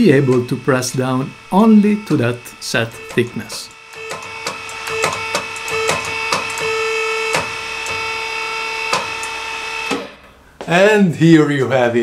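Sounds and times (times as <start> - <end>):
hydraulic press whine: 0.0 - 10.4.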